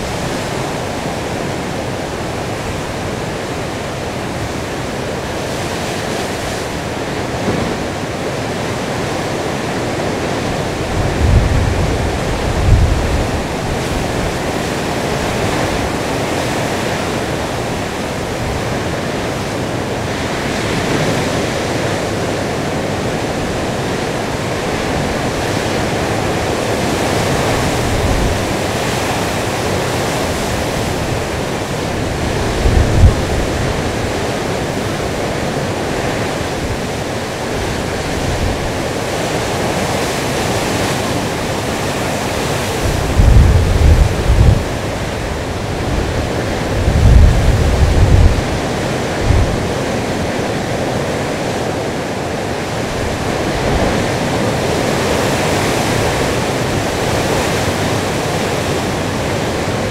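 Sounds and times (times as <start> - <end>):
surf rushing on shore: 0.0 - 59.9.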